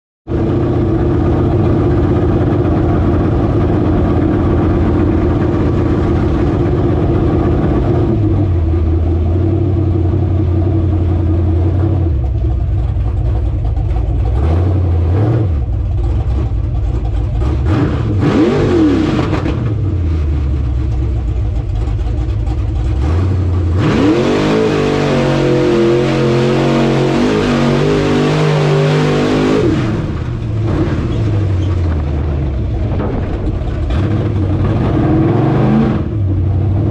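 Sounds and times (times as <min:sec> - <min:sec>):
truck engine revving: 0:00.3 - 0:36.9.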